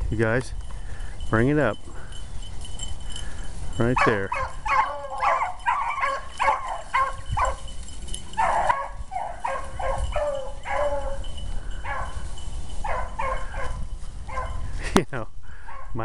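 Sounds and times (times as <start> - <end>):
hounds baying: 0.9 - 14.8, 15.5 - 16.0.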